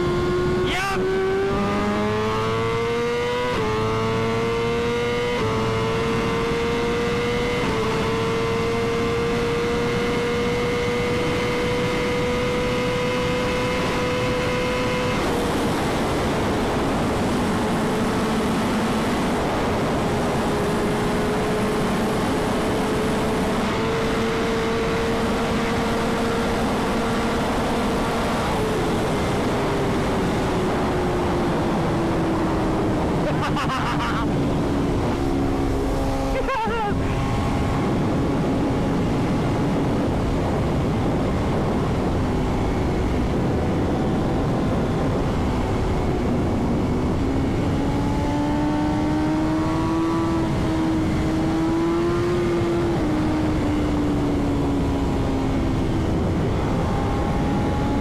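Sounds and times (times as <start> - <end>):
motorcycle engine at full throttle: 0.0 - 58.0
rush of wind: 0.0 - 58.0.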